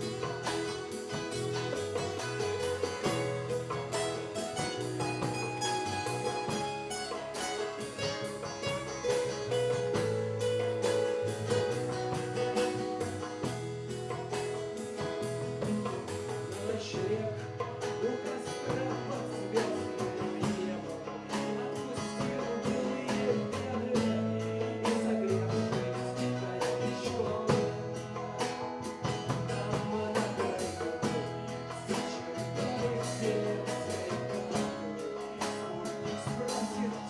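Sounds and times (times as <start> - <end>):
live art-rock band music: 0.0 - 37.0
quick plucked notes: 0.0 - 37.0.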